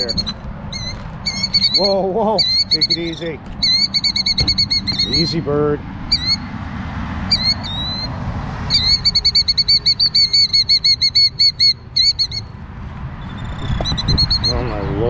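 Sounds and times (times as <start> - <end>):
bird shrill alarm calls: 0.0 - 5.4, 6.1 - 6.5, 7.3 - 12.6, 13.2 - 14.9.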